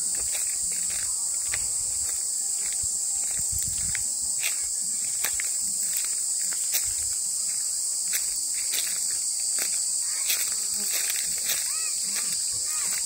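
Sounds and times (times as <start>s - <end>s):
footsteps through vegetation: 0.0s - 13.0s
insects chirping: 0.0s - 13.0s.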